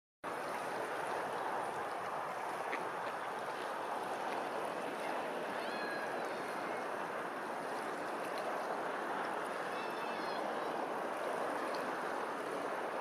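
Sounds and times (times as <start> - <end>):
flowing water rushing: 0.2 - 13.0.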